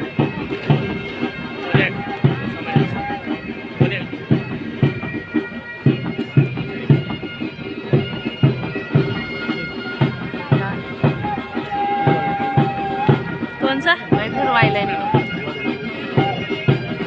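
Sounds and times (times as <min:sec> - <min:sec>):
bagpipes with drone: 0:00.0 - 0:17.0
marching drum beat: 0:00.0 - 0:17.0.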